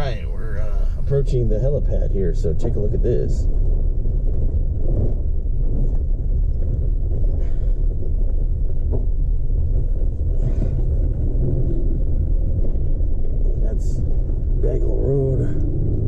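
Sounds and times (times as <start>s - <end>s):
truck engine rumble: 0.0s - 16.0s.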